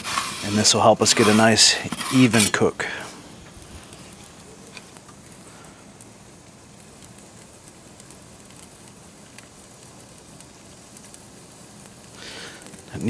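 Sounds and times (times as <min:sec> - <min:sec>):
faint fire crackles: 0:00.0 - 0:13.0
flames rushing in oven: 0:00.0 - 0:13.0.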